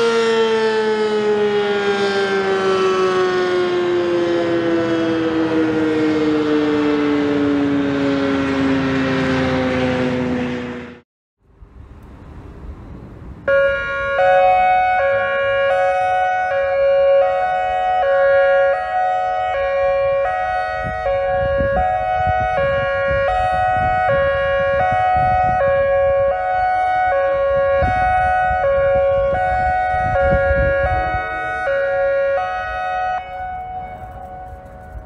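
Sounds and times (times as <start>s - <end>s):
hi-lo warning siren: 0.0s - 11.0s, 13.4s - 35.0s.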